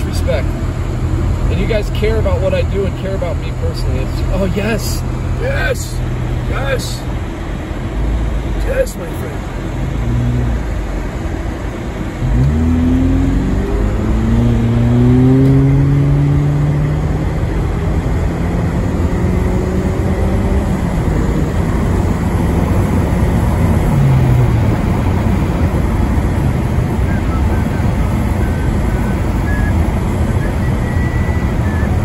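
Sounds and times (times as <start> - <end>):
car engine accelerating: 0.0 - 32.0
road noise: 0.0 - 32.0.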